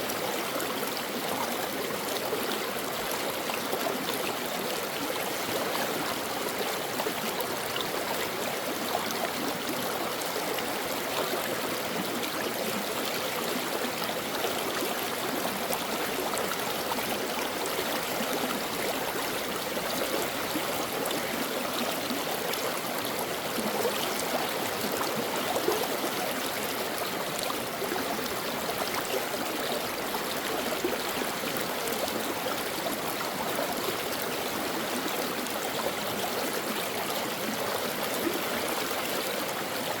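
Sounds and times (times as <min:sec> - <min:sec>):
brook babbling: 0:00.0 - 0:40.0.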